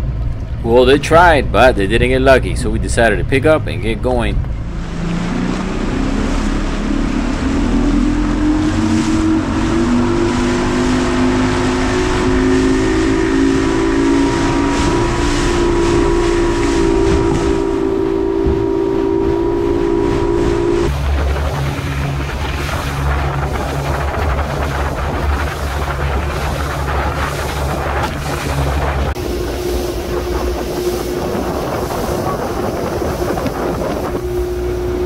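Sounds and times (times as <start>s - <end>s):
outboard motor accelerating: 0.0s - 35.0s.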